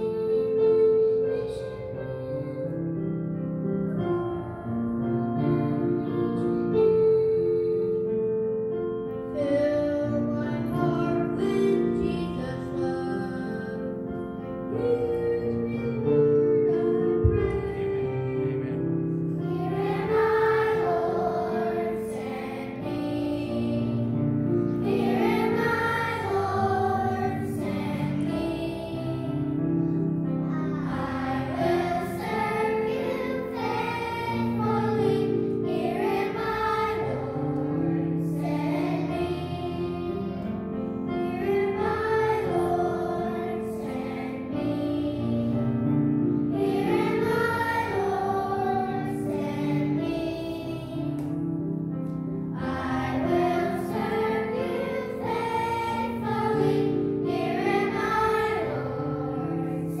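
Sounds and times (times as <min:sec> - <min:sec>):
children's choir singing: 0:00.0 - 0:03.0, 0:03.9 - 0:08.5, 0:09.3 - 1:00.0.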